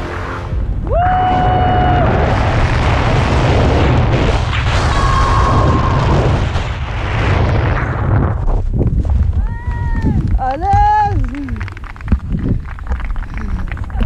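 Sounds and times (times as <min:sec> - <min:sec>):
wind buffeting microphone: 0:00.5 - 0:14.0.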